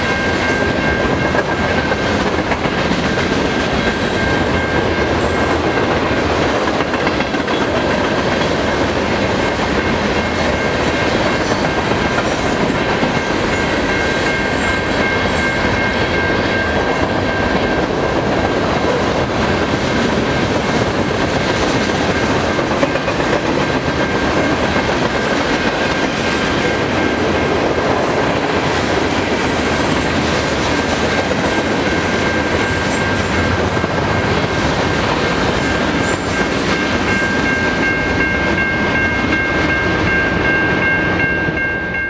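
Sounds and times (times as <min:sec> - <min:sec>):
freight train wheels rumbling: 0:00.0 - 0:42.0.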